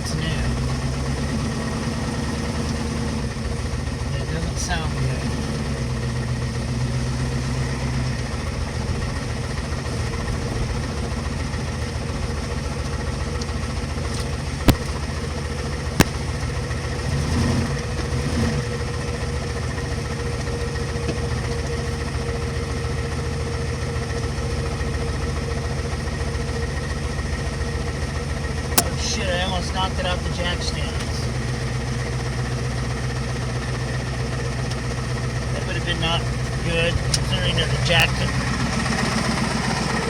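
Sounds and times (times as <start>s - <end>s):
truck engine idling with a knock: 7.8s - 40.0s.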